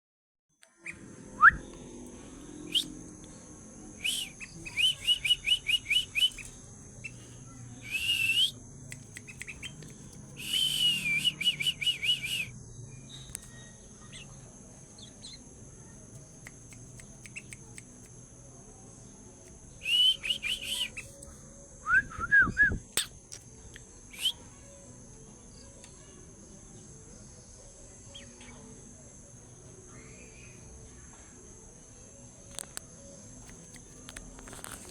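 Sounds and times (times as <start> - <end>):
high insect drone: 0.8 - 34.9.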